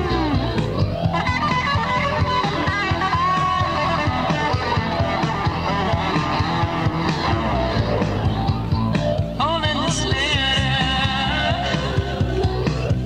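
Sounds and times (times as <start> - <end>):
bass guitar: 0.0 - 13.0
electric guitar melody: 0.0 - 13.0
steady drum beat: 0.0 - 13.0.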